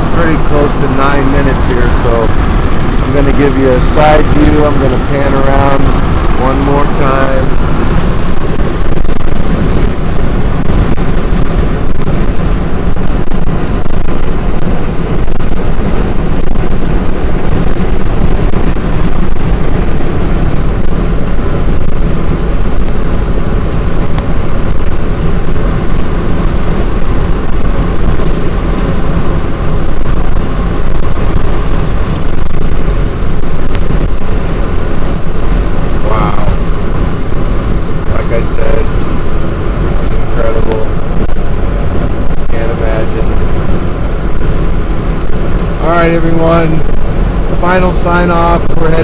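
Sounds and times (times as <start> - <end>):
car road and wind noise: 0.0 - 49.0.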